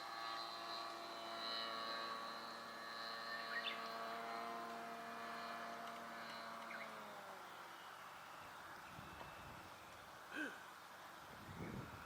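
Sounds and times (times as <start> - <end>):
model airplane motor droning: 0.0 - 12.0.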